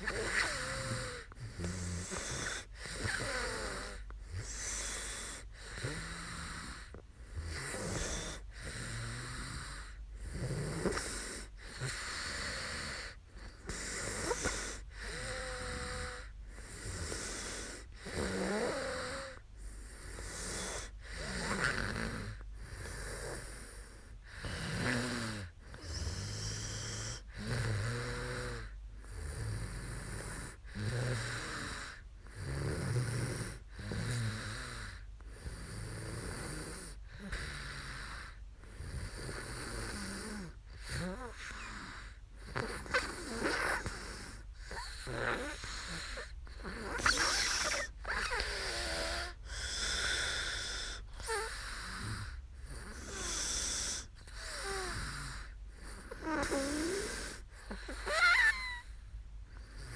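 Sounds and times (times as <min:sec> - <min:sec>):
woman snoring: 0:00.0 - 0:58.9.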